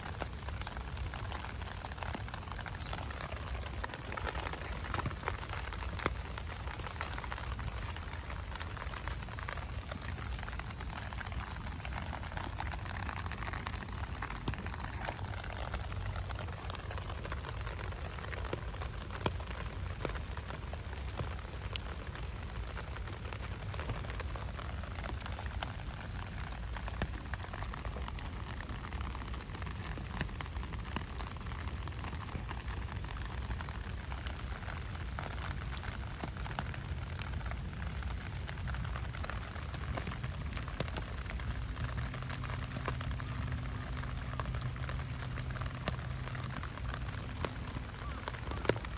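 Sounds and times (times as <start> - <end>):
heavy rain on foliage: 0.0 - 48.9
low steady hum: 0.0 - 48.9.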